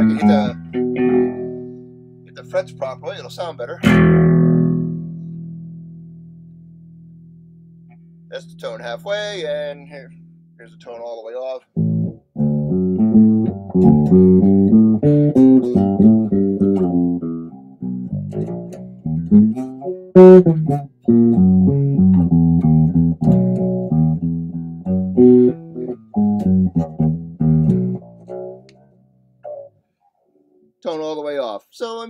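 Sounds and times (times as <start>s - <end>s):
plucked electric bass notes: 0.0s - 29.7s.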